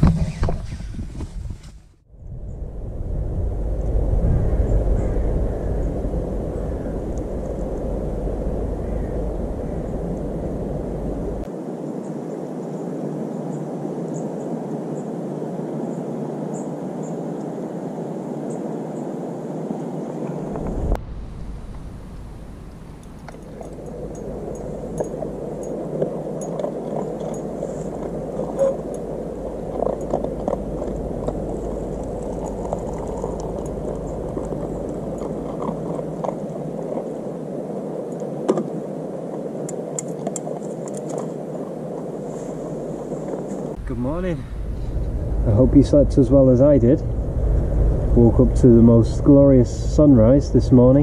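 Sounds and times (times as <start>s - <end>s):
steady rushing outdoor noise: 2.0s - 51.0s.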